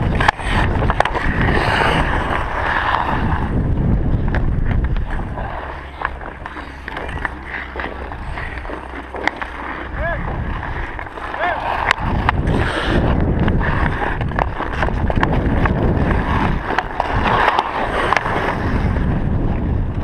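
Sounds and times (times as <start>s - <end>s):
hockey sticks clacking: 0.0s - 3.5s, 4.2s - 18.9s
skate blades scraping on ice: 0.0s - 20.0s
wind on microphone: 0.0s - 20.0s.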